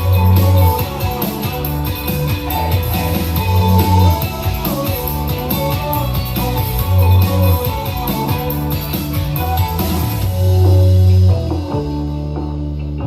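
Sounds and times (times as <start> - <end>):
rock song with strong bass: 0.0 - 13.0.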